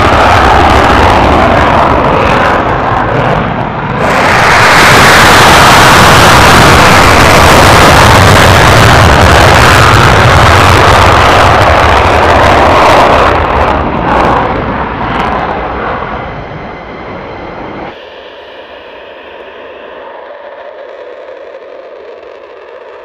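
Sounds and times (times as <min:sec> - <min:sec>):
jet engine afterburner roar: 0:00.0 - 0:23.0.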